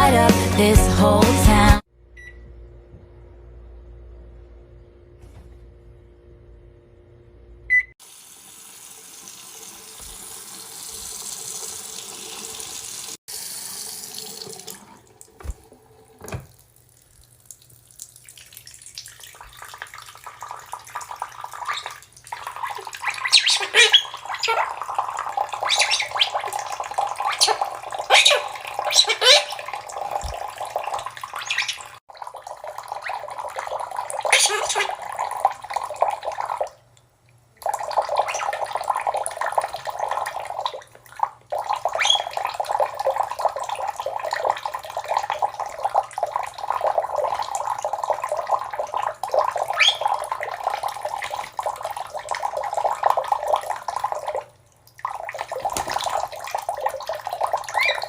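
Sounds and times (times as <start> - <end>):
water running from a tap: 8.0 - 36.8, 37.6 - 58.0.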